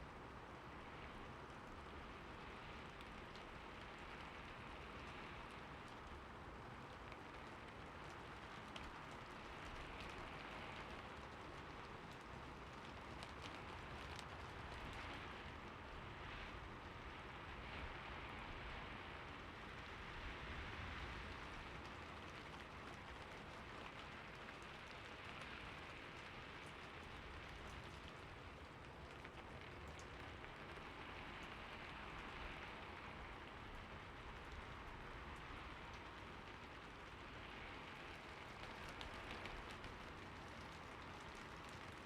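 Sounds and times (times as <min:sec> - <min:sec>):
heavy rain: 0:00.1 - 0:42.0.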